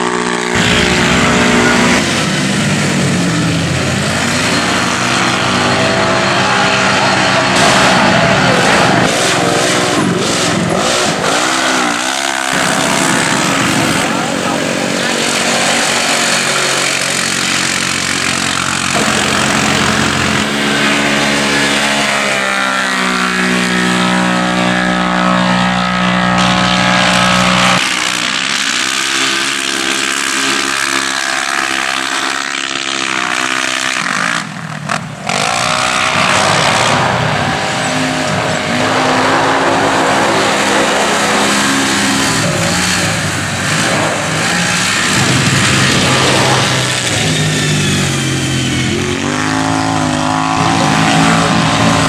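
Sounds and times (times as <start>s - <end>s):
utility vehicle engines racing: 0.0s - 52.0s.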